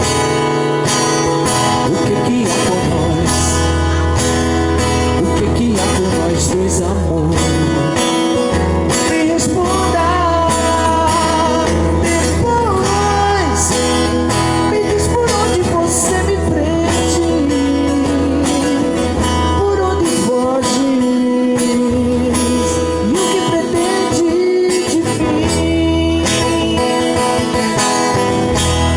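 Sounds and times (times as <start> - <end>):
person singing: 0.0 - 28.9
strummed acoustic guitar: 0.0 - 28.9.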